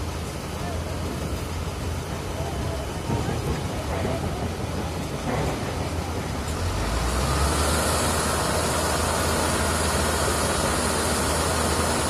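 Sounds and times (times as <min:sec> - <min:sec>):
heavy diesel machinery humming: 0:00.0 - 0:12.0.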